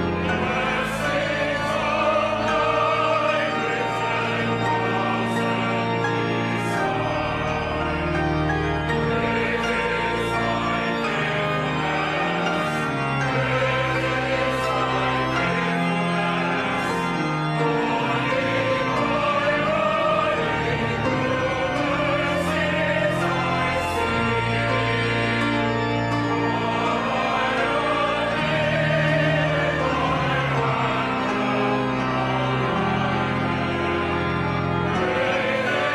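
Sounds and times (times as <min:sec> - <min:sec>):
choral singing with vibrato: 0:00.0 - 0:35.9.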